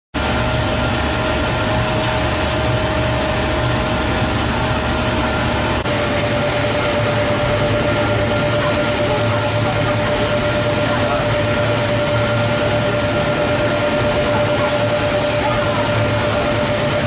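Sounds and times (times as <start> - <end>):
burner flame and blower rushing: 0.2 - 17.0
steady whine: 0.2 - 17.0.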